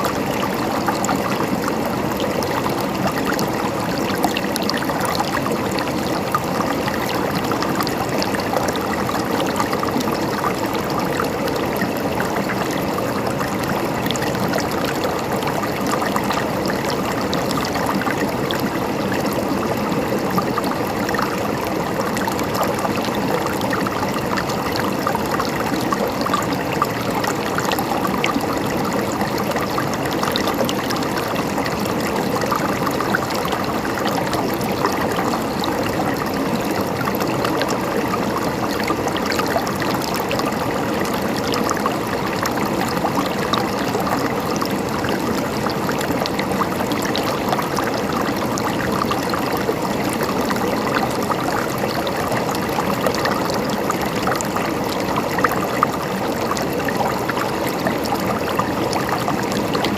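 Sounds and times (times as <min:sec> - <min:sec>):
stream trickling and gurgling: 0:00.0 - 0:59.9.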